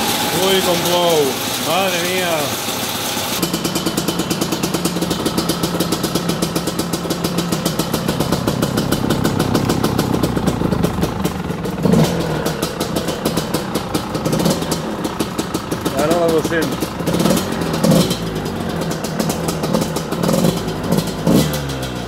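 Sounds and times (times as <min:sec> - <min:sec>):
dirt bike engine idling: 0:00.0 - 0:22.0.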